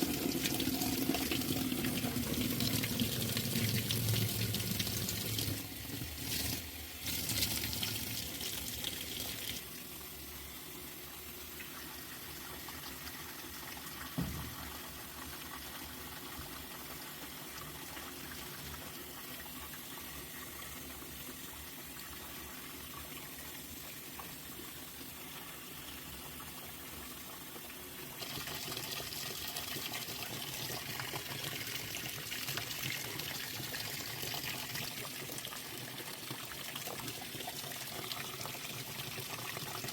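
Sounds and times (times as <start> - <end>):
washing machine filling with water: 0.0 - 39.9.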